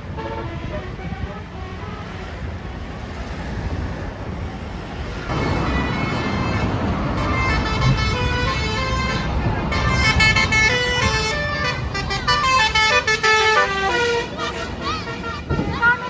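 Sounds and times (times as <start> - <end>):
multi-tone bus horn: 0.0 - 2.6, 5.3 - 16.0
bus driving past: 0.0 - 16.0.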